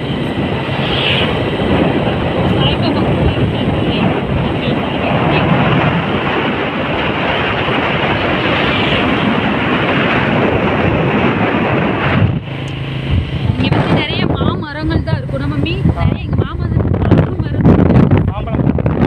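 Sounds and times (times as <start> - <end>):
motorcycle engine running: 0.0 - 18.5
road noise: 0.0 - 19.0
wind rush: 0.0 - 19.0.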